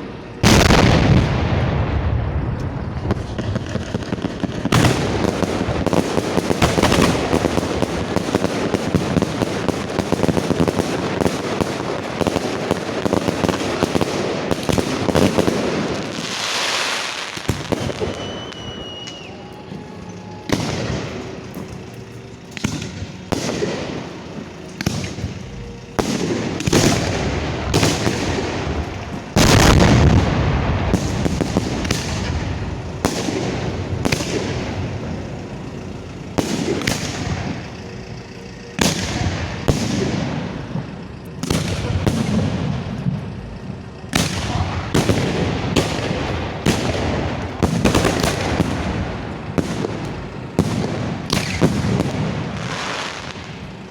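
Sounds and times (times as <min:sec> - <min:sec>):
fireworks reports with crackle: 0:00.0 - 0:53.9.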